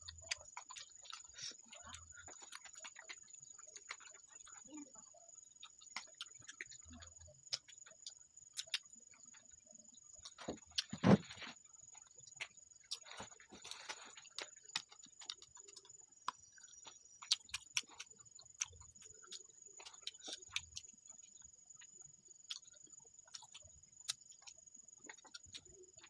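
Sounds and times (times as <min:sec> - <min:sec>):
person chewing crunchy food: 0:00.0 - 0:04.8, 0:05.5 - 0:26.0.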